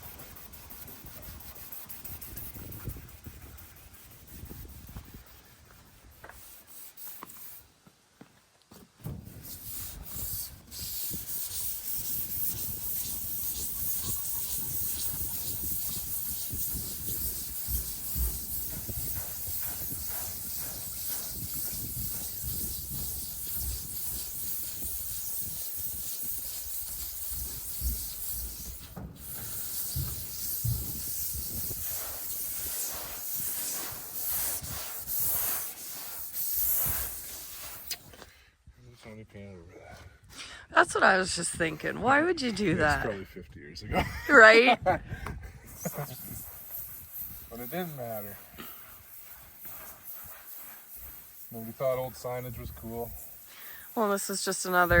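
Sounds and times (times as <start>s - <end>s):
scrubbing on painted metal panel: 0.0s - 7.7s, 9.0s - 38.4s, 45.6s - 55.0s.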